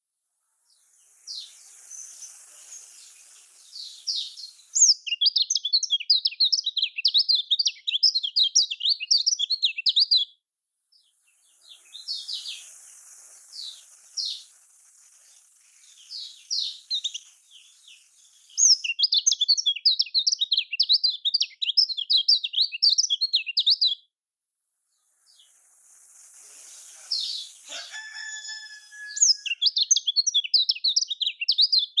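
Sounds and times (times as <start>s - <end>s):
bird twittering chatter: 0.7s - 10.2s, 11.0s - 24.0s, 25.0s - 32.0s.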